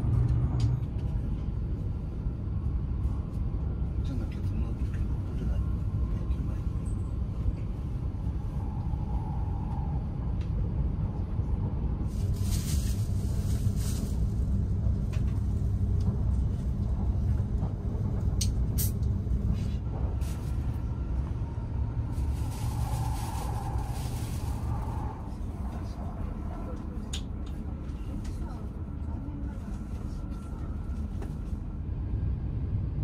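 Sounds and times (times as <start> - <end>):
train running inside cabin: 0.0 - 33.0.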